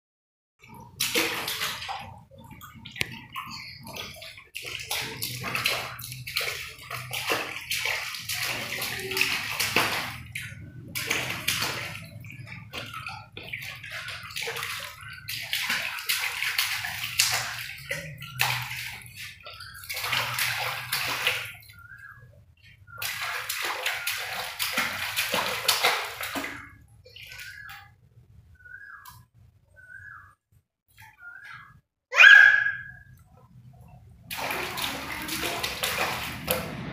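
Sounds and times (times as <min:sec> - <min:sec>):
baby splashing water in tub: 0:00.6 - 0:28.0, 0:32.5 - 0:36.9.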